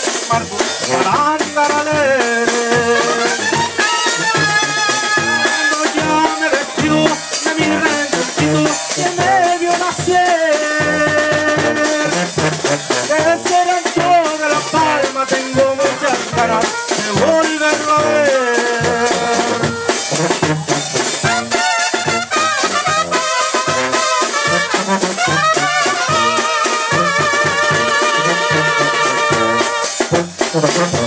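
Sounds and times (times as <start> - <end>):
bass drum and cymbal beat: 0.0 - 31.0
brass melody: 0.0 - 31.0
sousaphone bass: 0.0 - 31.0.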